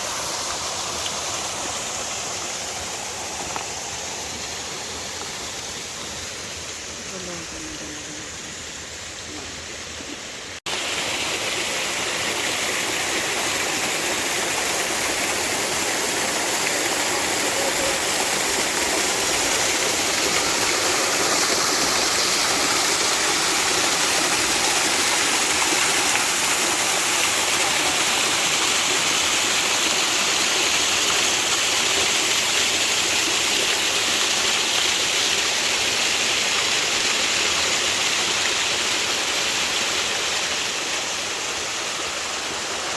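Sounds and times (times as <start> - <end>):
water rushing: 0.0 - 42.9.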